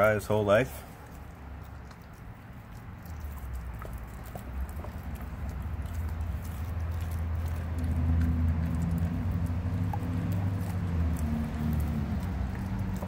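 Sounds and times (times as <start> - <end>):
dog chewing meat on bone: 0.0 - 13.0
low engine-like hum: 0.0 - 13.0.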